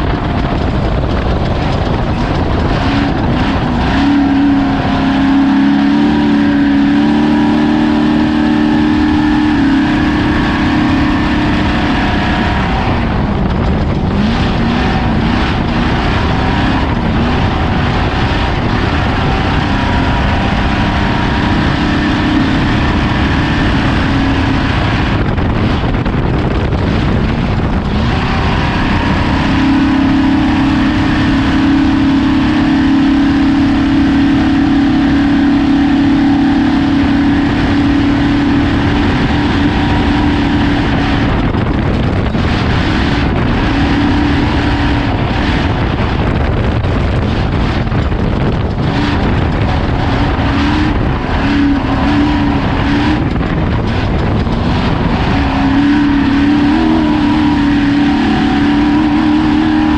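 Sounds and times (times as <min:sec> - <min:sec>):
constant rushing noise: 0:00.0 - 0:59.9
race vehicle engine running hard: 0:00.0 - 0:59.9.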